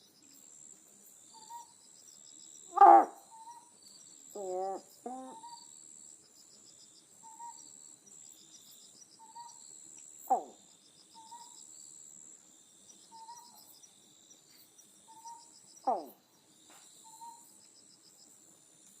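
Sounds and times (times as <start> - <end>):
pulsing insect chorus: 0.0 - 19.0.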